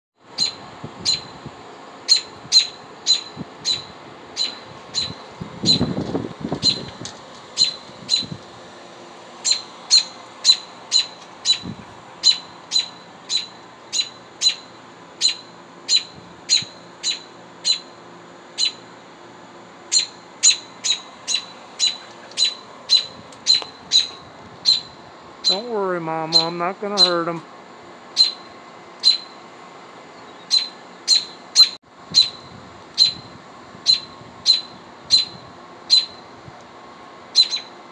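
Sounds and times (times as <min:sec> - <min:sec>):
robin alarm calls: 0:00.4 - 0:01.4, 0:02.0 - 0:06.0, 0:06.6 - 0:07.0, 0:07.6 - 0:08.4, 0:09.4 - 0:18.9, 0:19.8 - 0:27.3, 0:28.1 - 0:29.4, 0:30.2 - 0:36.3, 0:37.3 - 0:37.8.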